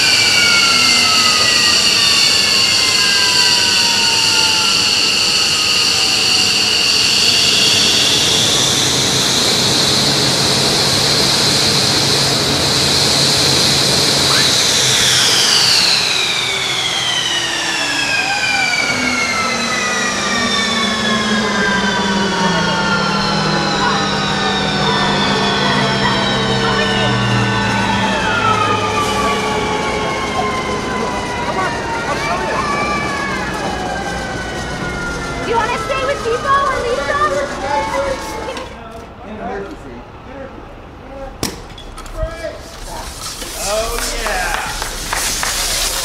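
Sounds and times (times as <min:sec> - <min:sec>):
high whine gliding down: 0:00.0 - 0:38.8, 0:41.0 - 0:46.0
jet engines spooling down: 0:00.0 - 0:46.0.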